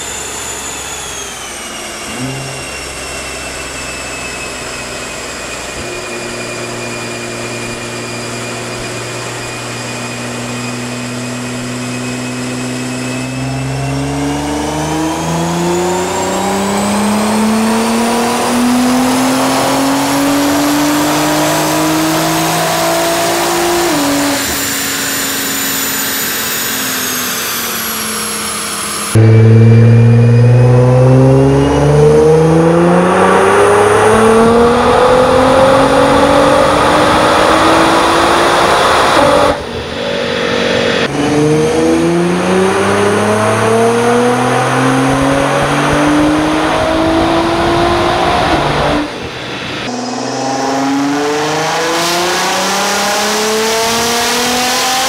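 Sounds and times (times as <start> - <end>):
car engine revving on dyno: 0.0 - 55.0
high turbo whine: 0.0 - 55.0.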